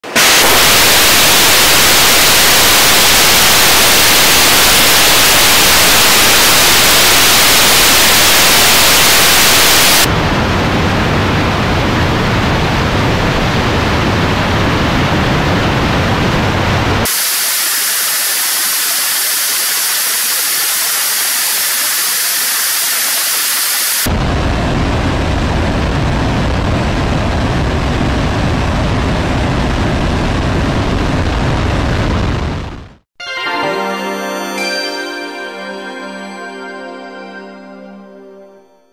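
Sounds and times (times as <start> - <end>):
rocket engine firing: 0.0 - 33.0.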